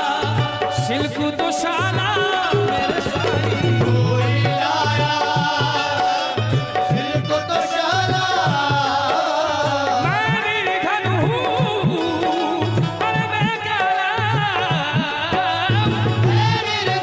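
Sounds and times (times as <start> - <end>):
hand drum beat: 0.0 - 7.4, 8.1 - 17.0.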